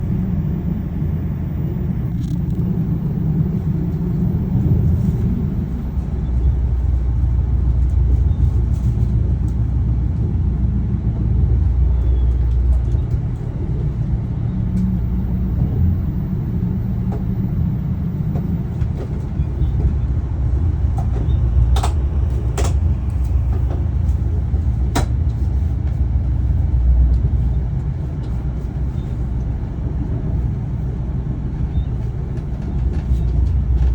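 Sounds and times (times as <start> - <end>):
vehicle rumbling in motion: 0.0 - 33.9.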